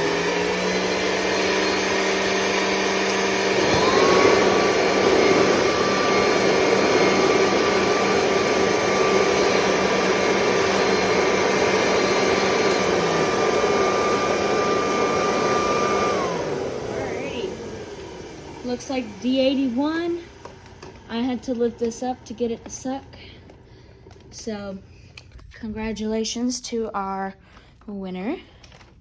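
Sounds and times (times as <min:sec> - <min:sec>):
vacuum cleaner motors running: 0:00.0 - 0:25.5
vacuum cleaner spinning up: 0:00.0 - 0:26.2.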